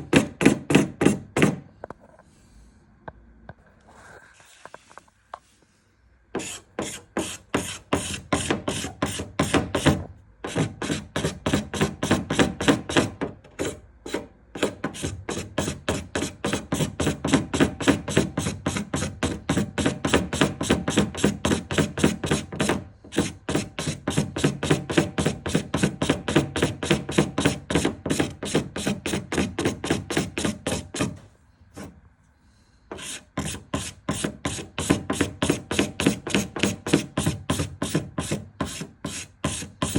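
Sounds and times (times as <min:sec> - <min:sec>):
hand sanding strokes: 0:06.4 - 0:32.0, 0:32.9 - 0:39.9.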